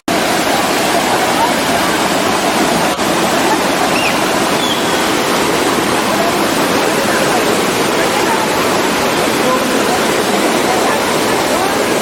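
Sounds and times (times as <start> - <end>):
waterfall rushing: 0.1 - 12.0.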